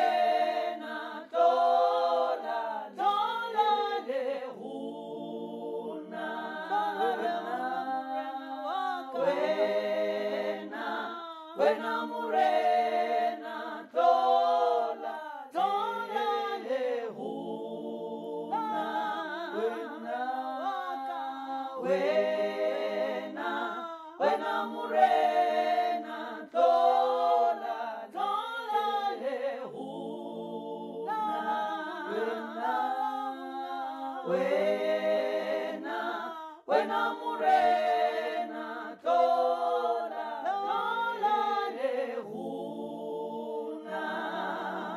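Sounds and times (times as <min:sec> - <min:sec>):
a cappella choir singing: 0:00.0 - 0:44.9.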